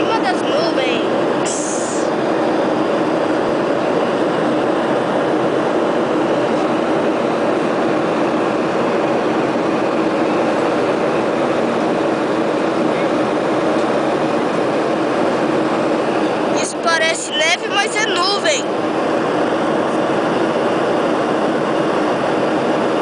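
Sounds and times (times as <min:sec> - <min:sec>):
airflow over fuselage: 0:00.0 - 0:23.0
jet engines rumble: 0:00.0 - 0:23.0.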